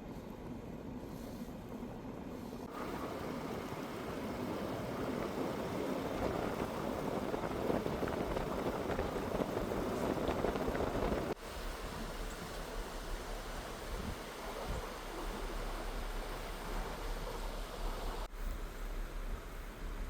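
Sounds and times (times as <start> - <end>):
car road and tyre noise: 0.0 - 20.0.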